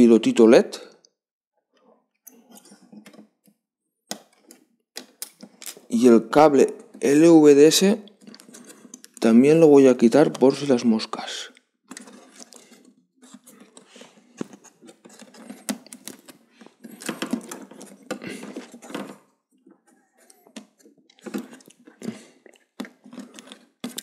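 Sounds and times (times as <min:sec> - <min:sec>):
hands handling plastic parts: 0:02.3 - 0:11.1, 0:11.8 - 0:24.0.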